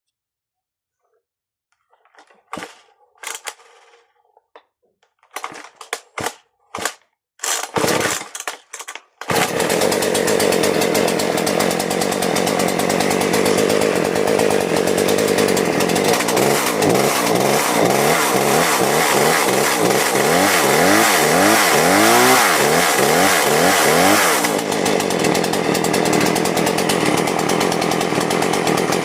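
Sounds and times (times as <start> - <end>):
chainsaw cranking: 1.8 - 29.0
chainsaw engine running: 5.3 - 29.0.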